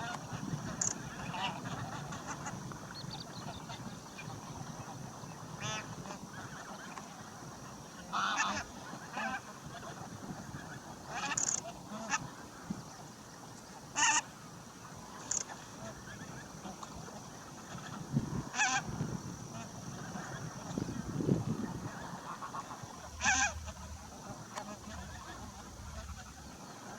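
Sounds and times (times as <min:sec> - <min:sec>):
geese honking: 0:00.0 - 0:02.7, 0:03.4 - 0:12.6, 0:13.9 - 0:14.3, 0:15.0 - 0:26.9.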